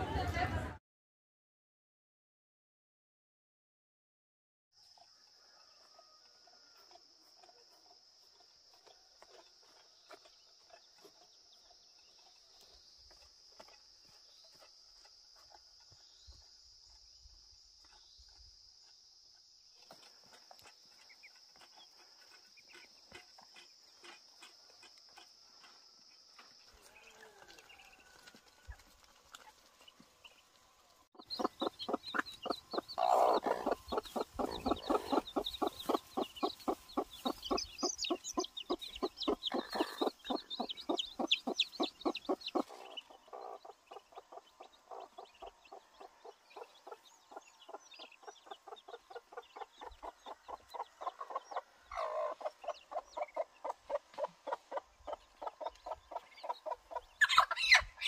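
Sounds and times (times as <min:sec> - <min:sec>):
chickens clucking: 0:05.1 - 0:16.5, 0:19.7 - 0:58.0.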